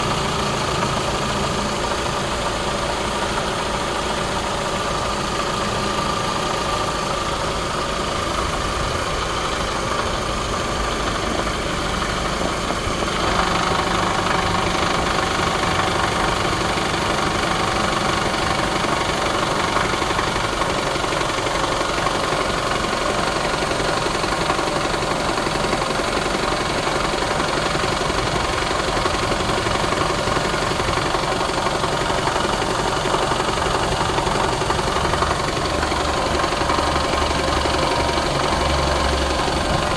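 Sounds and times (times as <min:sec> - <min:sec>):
car engine running with rattle: 0:00.0 - 0:39.9.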